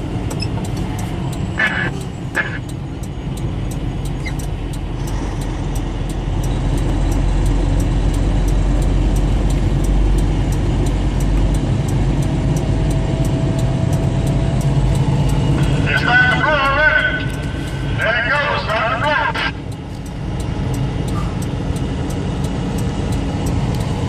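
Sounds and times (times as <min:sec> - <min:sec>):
truck engine drone and road noise: 0:00.0 - 0:24.0.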